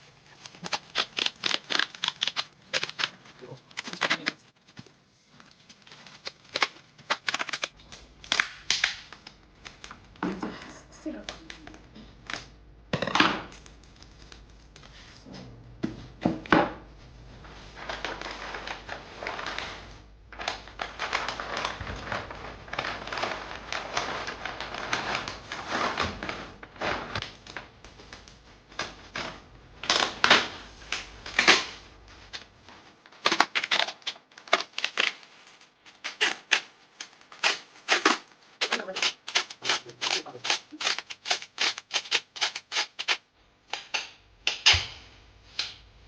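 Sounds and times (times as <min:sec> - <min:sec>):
plastic wrap crinkling: 0:00.0 - 0:15.3, 0:16.9 - 0:43.9.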